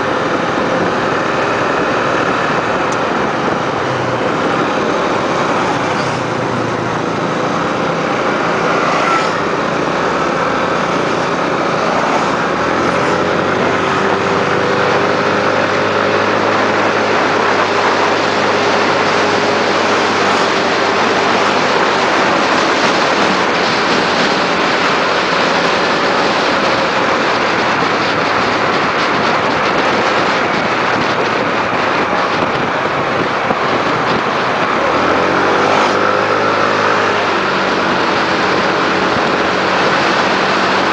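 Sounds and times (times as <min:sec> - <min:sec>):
motorbike engine: 0:00.0 - 0:40.9
rush of noise: 0:00.0 - 0:40.9.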